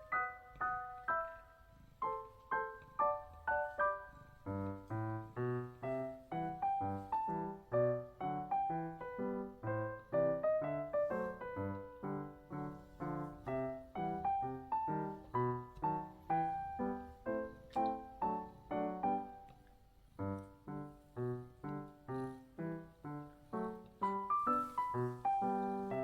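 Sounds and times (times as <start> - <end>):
piano chords: 0.0 - 26.0.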